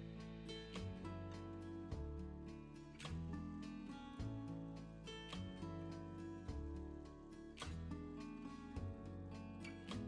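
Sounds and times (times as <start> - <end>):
plucked acoustic guitar music: 0.0 - 10.0.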